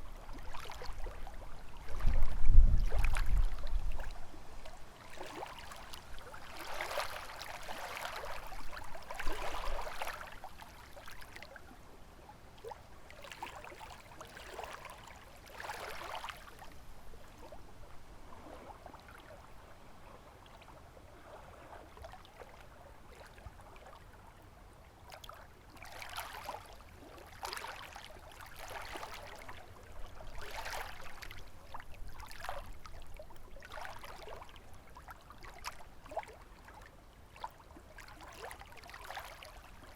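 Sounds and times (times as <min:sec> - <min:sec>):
lake waves lapping on shore: 0:00.0 - 0:11.7, 0:12.6 - 0:24.2, 0:25.0 - 0:39.9
low rumble of wind: 0:00.0 - 0:13.2, 0:14.0 - 0:25.8, 0:28.2 - 0:38.0.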